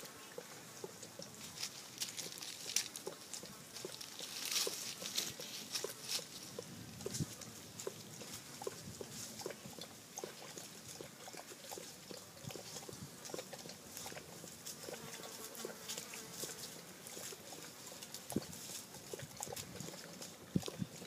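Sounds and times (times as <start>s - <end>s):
dog eating from a bowl: 0.3s - 21.0s.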